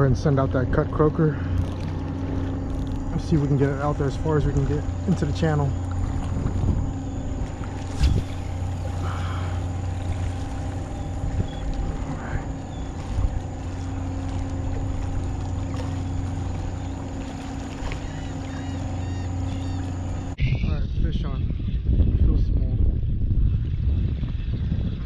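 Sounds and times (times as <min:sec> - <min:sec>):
engine droning: 0:00.0 - 0:20.4.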